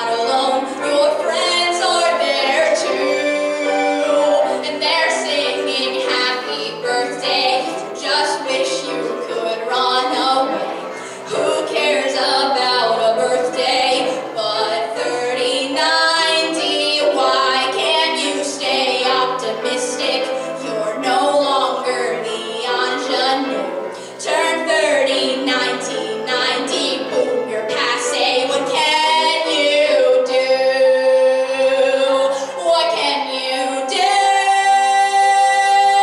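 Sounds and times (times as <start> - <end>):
woman singing into a microphone: 0.0 - 36.0.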